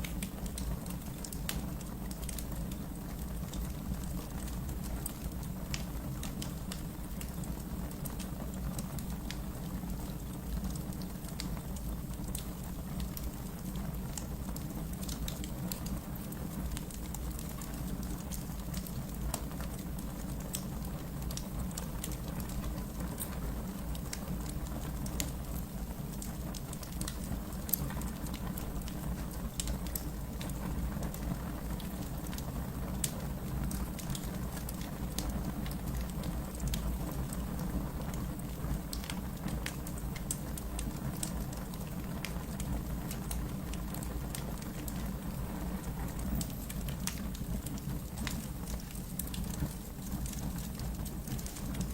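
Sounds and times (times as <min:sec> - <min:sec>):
burning logs crackling and popping: 0:00.0 - 0:51.9
low rumble of flames: 0:00.0 - 0:51.9.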